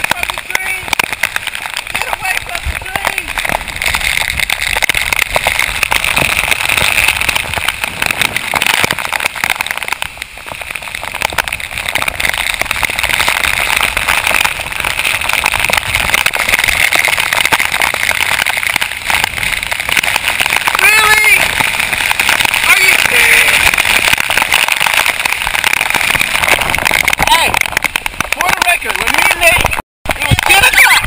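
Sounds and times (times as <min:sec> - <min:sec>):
torrential rain pouring: 0:00.0 - 0:31.0.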